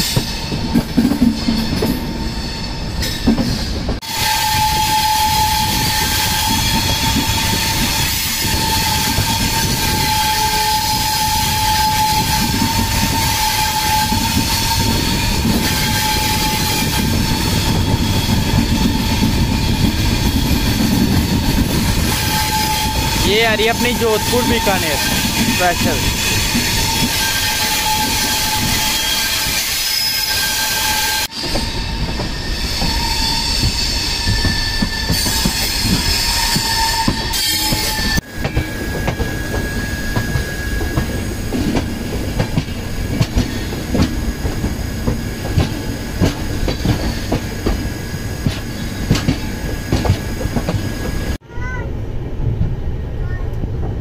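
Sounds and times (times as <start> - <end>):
train wheels clattering over track: 0.0 - 51.4
steady train rumble: 0.0 - 54.0.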